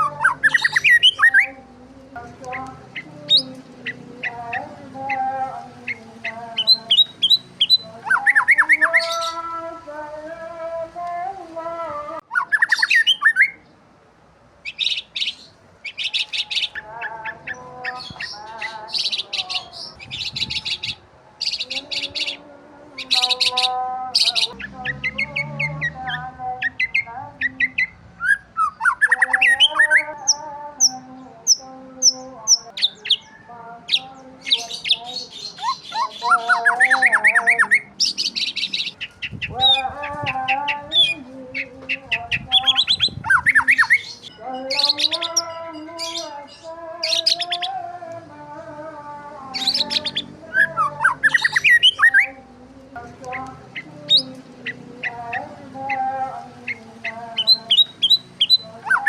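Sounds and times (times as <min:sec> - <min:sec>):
birds chirping and calling: 0:00.0 - 0:13.7, 0:14.6 - 0:59.0.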